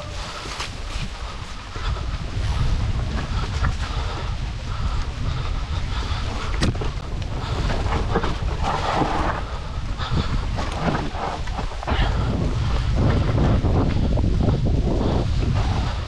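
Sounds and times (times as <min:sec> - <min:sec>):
tyres on dirt and leaves: 0:00.0 - 0:14.3
wind buffeting microphone: 0:00.0 - 0:16.0.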